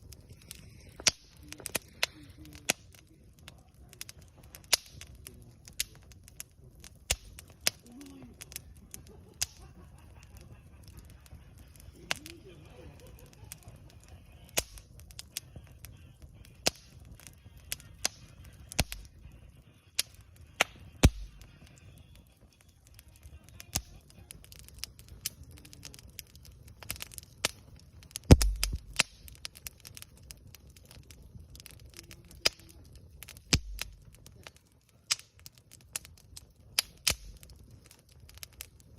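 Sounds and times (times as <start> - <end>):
campfire crackling and popping: 0.0 - 38.9
low rumble of flame: 0.0 - 38.9.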